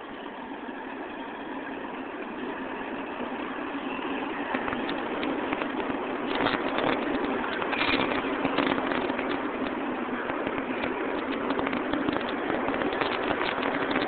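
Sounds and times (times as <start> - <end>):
subway train rumble: 0.0 - 14.0
wheels clacking on rails: 0.0 - 14.0.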